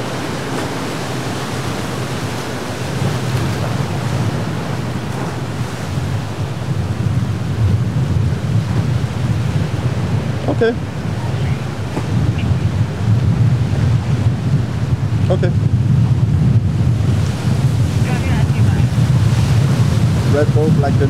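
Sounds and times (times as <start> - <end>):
surf breaking: 0.0 - 21.0
wind buffeting microphone: 0.0 - 21.0.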